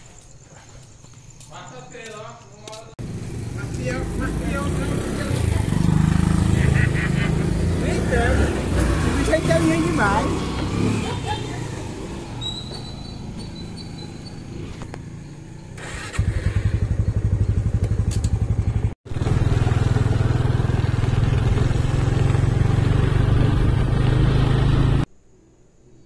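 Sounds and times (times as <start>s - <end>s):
motorcycle engine running: 3.0s - 25.1s.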